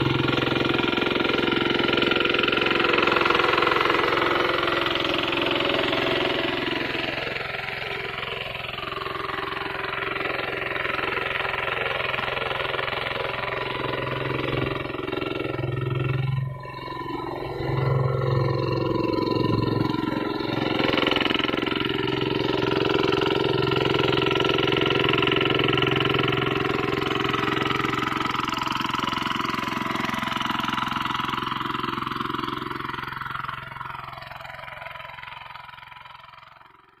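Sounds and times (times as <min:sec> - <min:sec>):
diesel hand tractor engine: 0:00.0 - 0:37.0.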